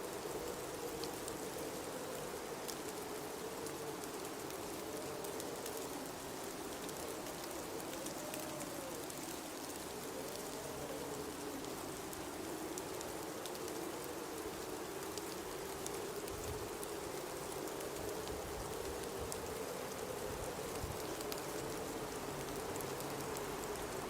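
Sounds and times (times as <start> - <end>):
faint ticks: 0.1 - 24.0.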